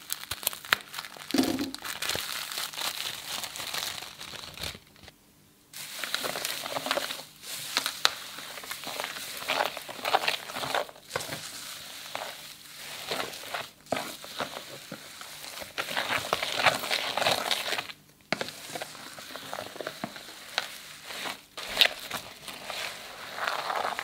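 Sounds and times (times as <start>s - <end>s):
hands squishing crunchy slime: 0.0s - 4.8s, 5.8s - 24.0s.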